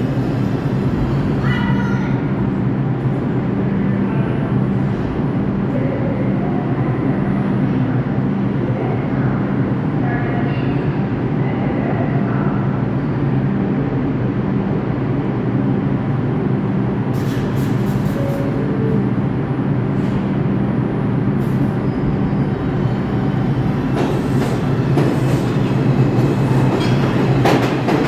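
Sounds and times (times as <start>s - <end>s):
subway train equipment humming: 0.0s - 28.0s.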